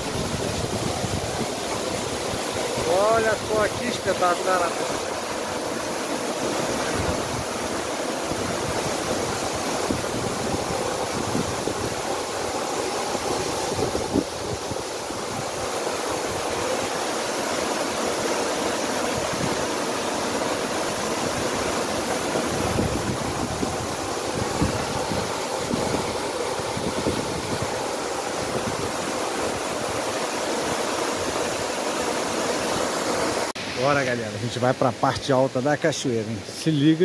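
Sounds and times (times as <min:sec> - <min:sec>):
waterfall splashing into pool: 0:00.0 - 0:37.0.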